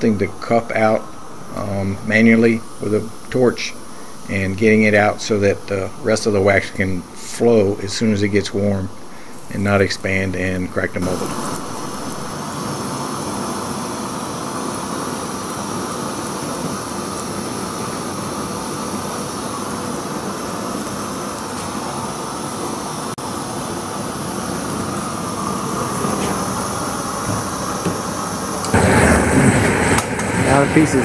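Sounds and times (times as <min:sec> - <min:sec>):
gas torch rushing: 0:00.0 - 0:31.0.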